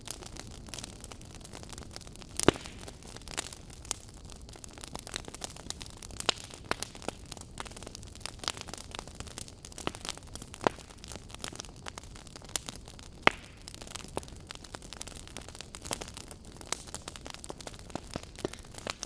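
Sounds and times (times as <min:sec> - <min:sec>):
burning wood crackling: 0:00.0 - 0:19.0
campfire hissing: 0:00.0 - 0:19.0.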